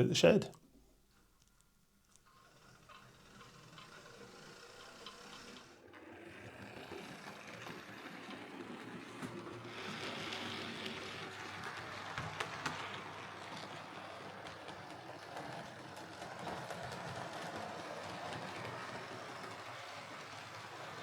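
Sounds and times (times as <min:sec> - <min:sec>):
model train running on track: 0:02.2 - 0:21.0.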